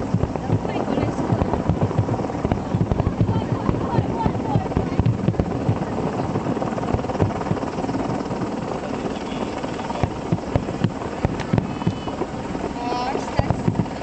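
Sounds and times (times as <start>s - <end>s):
sharp firework cracks: 0.0s - 7.6s, 9.8s - 14.0s
fireworks booming: 0.0s - 14.0s.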